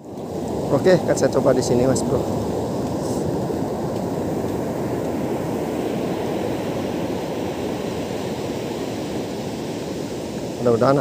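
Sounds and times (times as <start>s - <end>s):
surf breaking on beach: 0.0s - 11.0s
wind noise on microphone: 0.0s - 11.0s.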